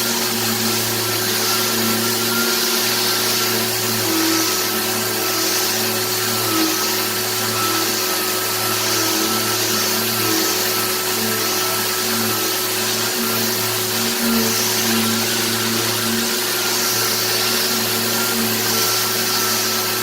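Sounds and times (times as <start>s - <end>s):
electric sander sanding wood: 0.0s - 20.0s.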